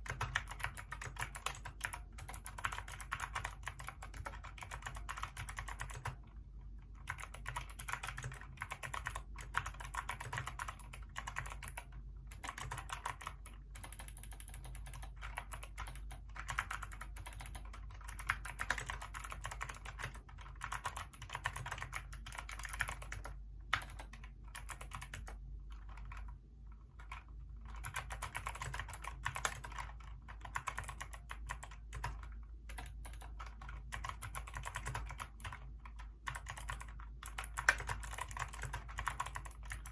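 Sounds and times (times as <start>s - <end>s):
mechanical keyboard keystroke clicks: 7.0s - 26.3s, 27.0s - 39.9s.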